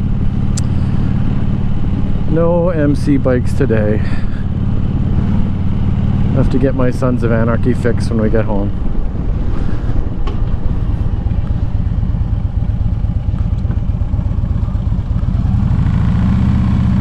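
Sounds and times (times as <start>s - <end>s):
motorcycle engine throbbing: 0.0s - 17.0s.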